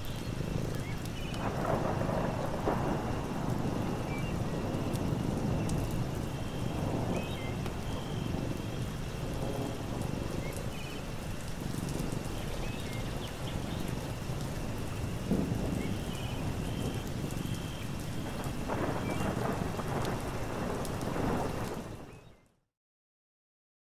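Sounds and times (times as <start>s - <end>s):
steady rain: 0.0s - 22.6s
rolling thunder: 1.4s - 12.4s, 13.4s - 22.1s.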